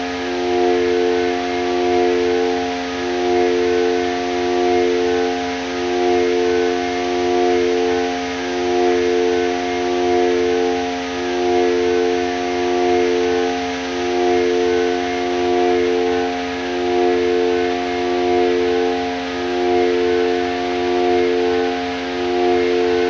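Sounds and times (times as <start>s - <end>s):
synthesizer drone: 0.0s - 23.0s.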